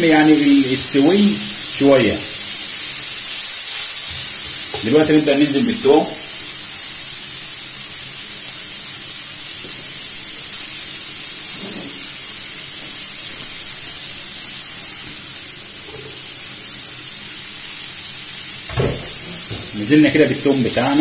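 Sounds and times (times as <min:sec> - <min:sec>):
vegetables sizzling in frying pan: 0:00.0 - 0:21.0.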